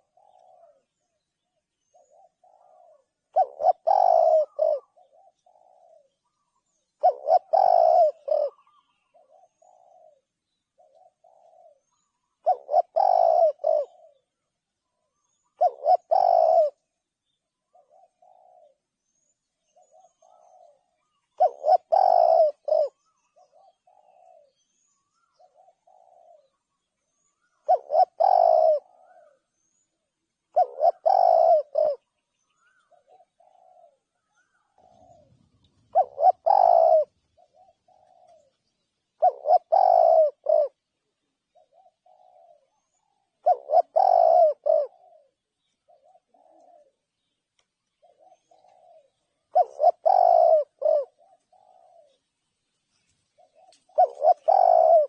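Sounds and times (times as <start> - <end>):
dove cooing: 0.0 - 14.4, 15.0 - 47.3, 47.9 - 52.4, 53.0 - 55.0.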